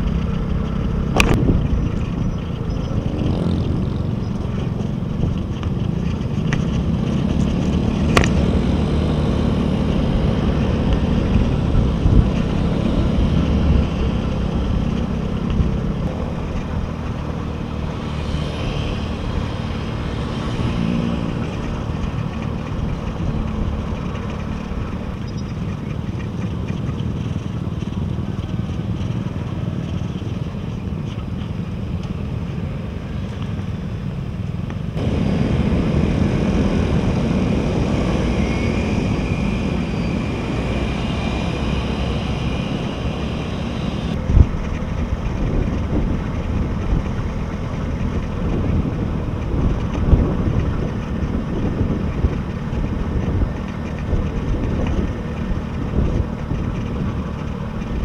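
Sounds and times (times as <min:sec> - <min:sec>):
motorbike engine rumble: 0:00.0 - 0:58.0.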